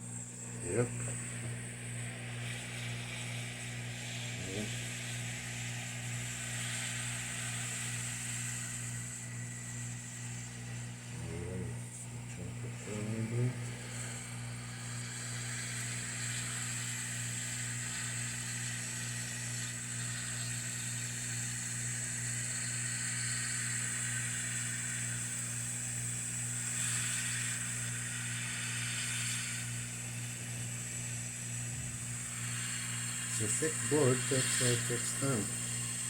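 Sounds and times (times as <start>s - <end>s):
hot air blower hiss: 0.0s - 36.0s
steady low hum: 0.0s - 36.0s.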